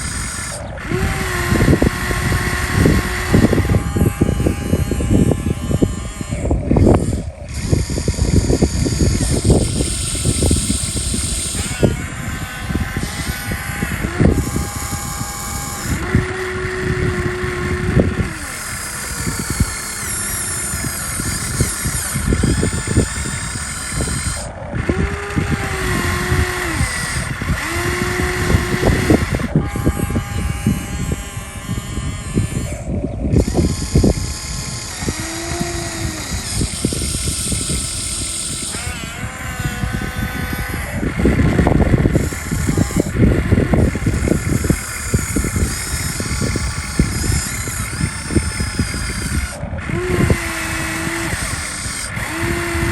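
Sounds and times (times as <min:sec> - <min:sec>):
excavator whine pulsing: 0:00.0 - 0:52.9.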